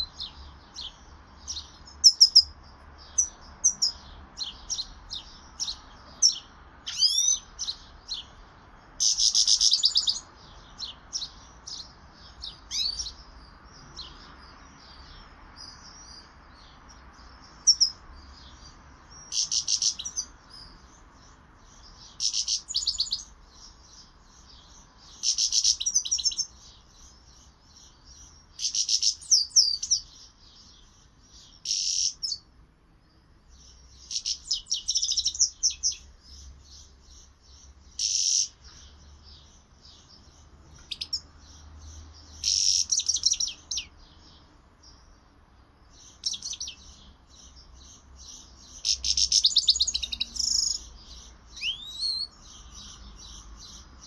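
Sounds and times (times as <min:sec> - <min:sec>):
finch twittering song: 0:00.0 - 0:54.0.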